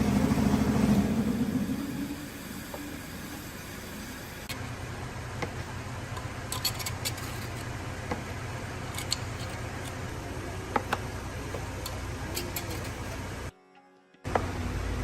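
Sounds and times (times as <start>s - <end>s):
engine idling: 0.0s - 13.5s, 14.3s - 15.0s.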